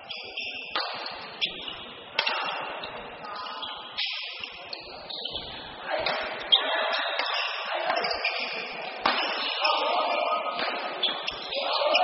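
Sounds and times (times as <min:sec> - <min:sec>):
voices echoing in hall: 0:00.0 - 0:12.0.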